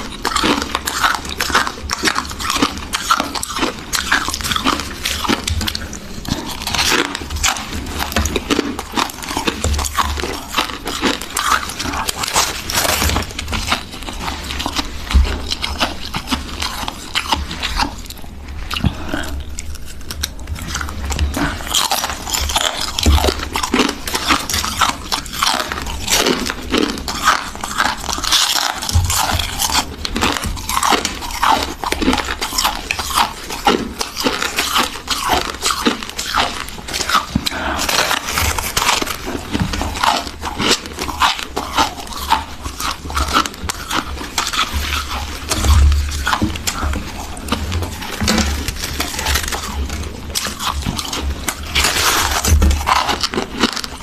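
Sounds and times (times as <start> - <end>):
frost being chewed crunching: 0.0 - 54.0.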